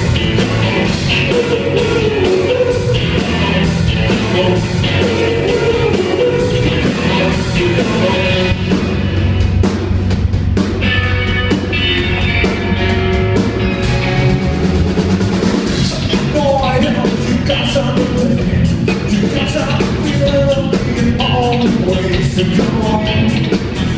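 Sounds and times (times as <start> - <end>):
melodic guitar lead line: 0.0 - 9.7, 10.6 - 23.9
rock band playing live: 0.0 - 23.9.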